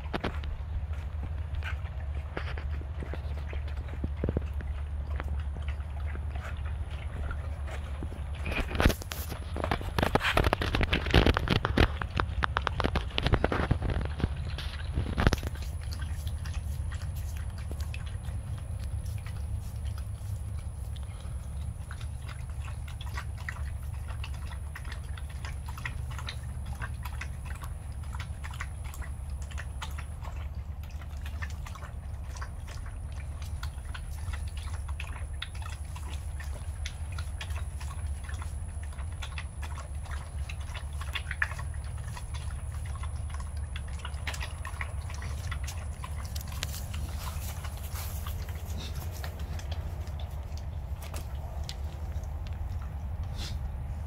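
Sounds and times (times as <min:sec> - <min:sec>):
dogs lapping from bowl: 0:00.0 - 0:54.0
low hum: 0:00.0 - 0:54.0.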